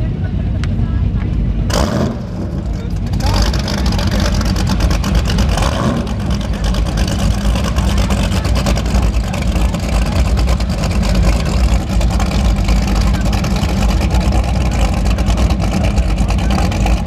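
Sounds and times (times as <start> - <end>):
boat engines idling: 0.0 - 17.0.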